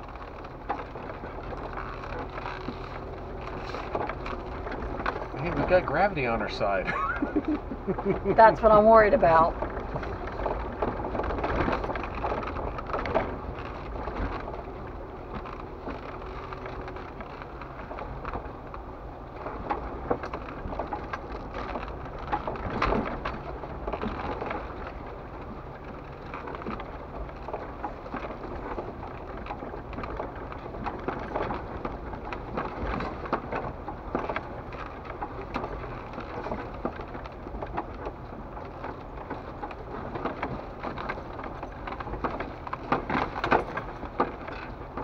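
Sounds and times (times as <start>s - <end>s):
faint low engine hum: 0.0s - 45.0s
knocks and rattles: 0.0s - 45.0s
tyres crunching over rock: 0.0s - 45.0s.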